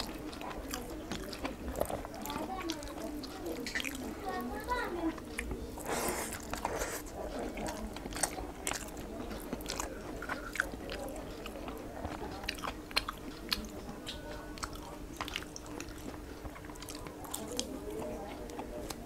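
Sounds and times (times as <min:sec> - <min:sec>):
wet chewing smacks: 0:00.0 - 0:04.2, 0:05.0 - 0:19.0.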